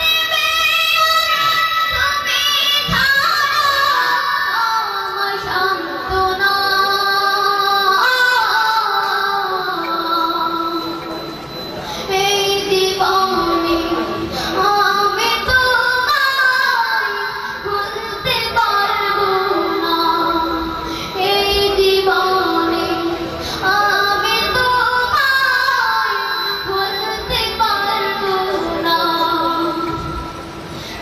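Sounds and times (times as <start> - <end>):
boy singing into a microphone: 0.0 - 31.0.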